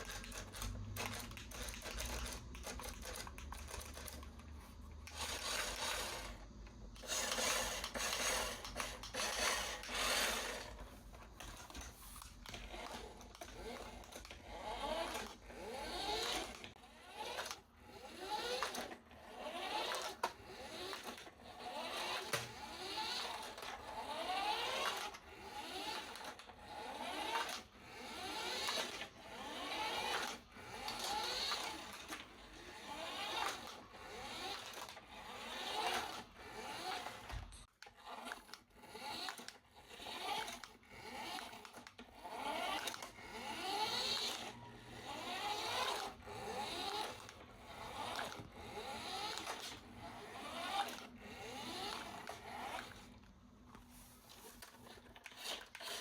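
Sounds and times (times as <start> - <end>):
toy electric motor whirring: 0.0 - 53.2, 53.9 - 56.0.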